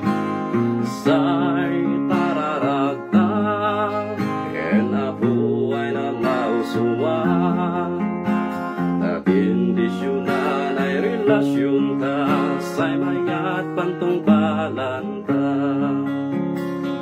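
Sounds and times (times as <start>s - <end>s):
acoustic guitar strumming: 0.0s - 17.0s
person singing with vibrato: 0.8s - 16.2s.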